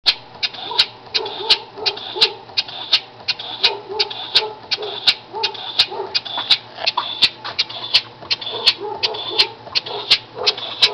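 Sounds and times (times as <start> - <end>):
air motor clacking and hissing: 0.1 - 10.9.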